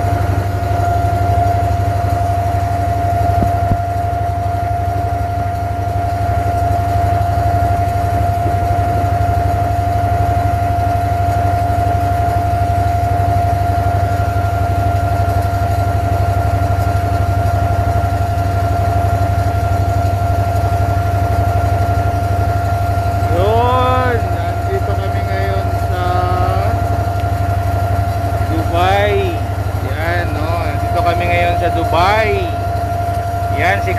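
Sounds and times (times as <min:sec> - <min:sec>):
boat engine droning with whine: 0:00.0 - 0:33.9.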